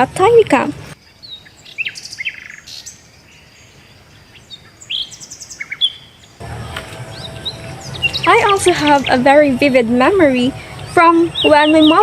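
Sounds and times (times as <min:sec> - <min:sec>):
wild birds chirping: 0:00.8 - 0:12.0.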